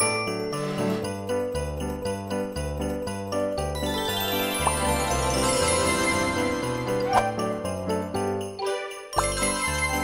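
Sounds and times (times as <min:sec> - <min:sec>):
festive holiday tune with sleigh bells: 0:00.0 - 0:10.0.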